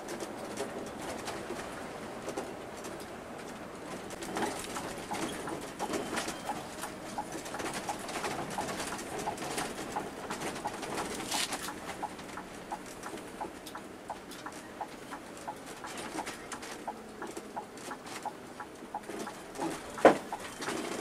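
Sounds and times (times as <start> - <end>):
bus engine and road drone: 0.0 - 21.0.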